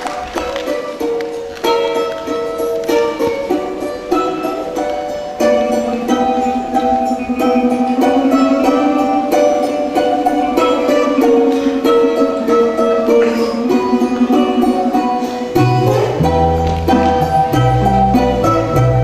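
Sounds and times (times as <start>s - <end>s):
music with pulsed melody: 0.0s - 19.0s.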